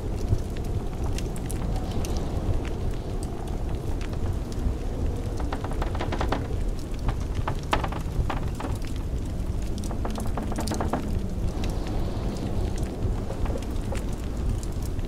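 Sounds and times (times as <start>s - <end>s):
blizzard wind rumbling: 0.0s - 15.0s
wood fire crackling and popping: 0.0s - 15.0s.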